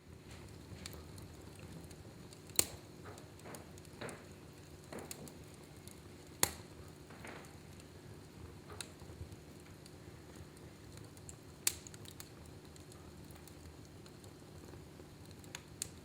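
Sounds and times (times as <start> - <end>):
fire crackling in fireplace: 0.0 - 16.0
sharp pops of fire: 0.2 - 16.0.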